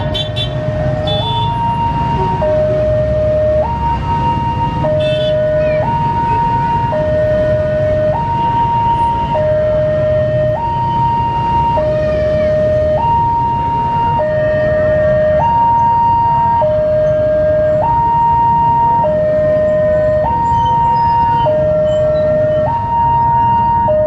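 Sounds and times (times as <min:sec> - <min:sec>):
low rumble of traffic: 0:00.0 - 0:24.0
two-tone crossing alarm: 0:00.0 - 0:24.0.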